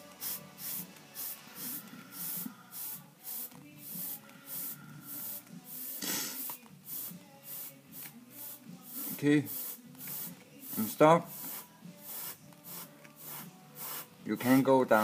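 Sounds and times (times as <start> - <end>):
airbrush spraying hissing bursts: 0.0 - 14.2.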